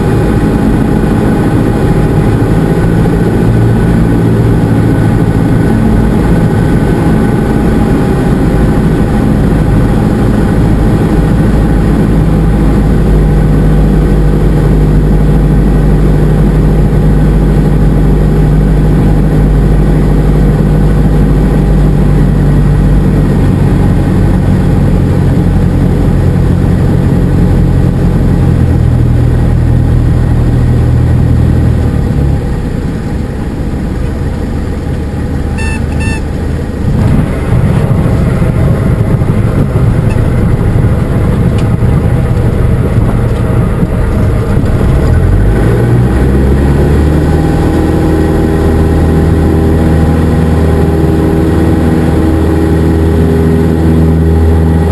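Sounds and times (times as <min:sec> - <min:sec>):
airplane engine and propeller drone: 0:00.0 - 0:54.9.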